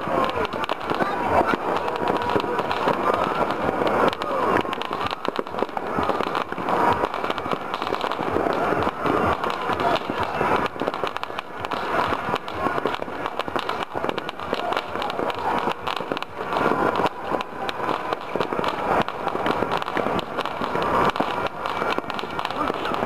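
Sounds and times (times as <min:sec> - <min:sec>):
fireworks and firecrackers popping: 0:00.0 - 0:23.0.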